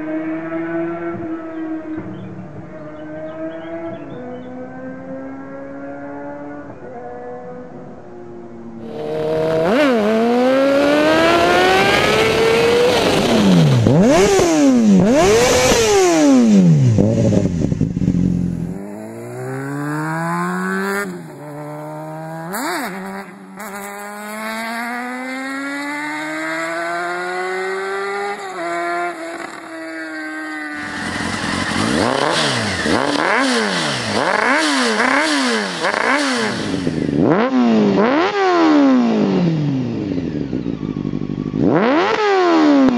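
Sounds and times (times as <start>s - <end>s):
motorcycle engine revving hard: 0.0s - 42.9s.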